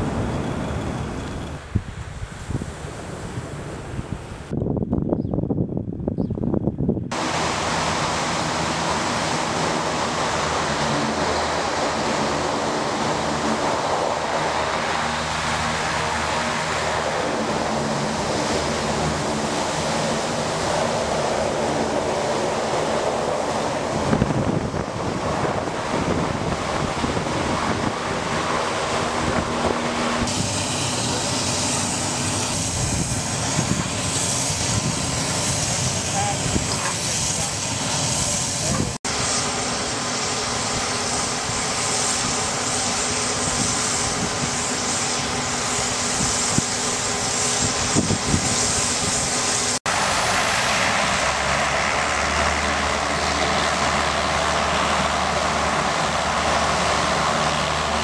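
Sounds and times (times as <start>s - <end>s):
hovercraft engines droning: 0.0s - 4.8s, 7.1s - 58.0s.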